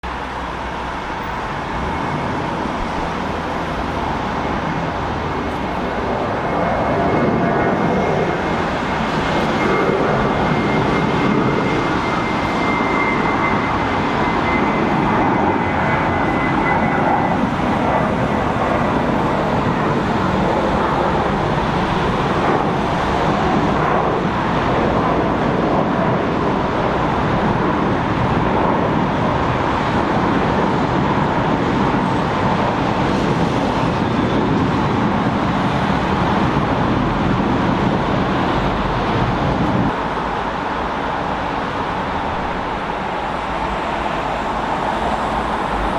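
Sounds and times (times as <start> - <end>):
faint engine whine: 0.0 - 45.9
jet engines roaring: 0.0 - 45.9.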